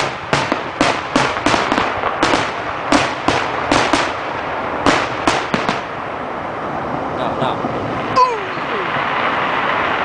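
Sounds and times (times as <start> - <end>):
fireworks bangs with crackle: 0.0 - 10.0.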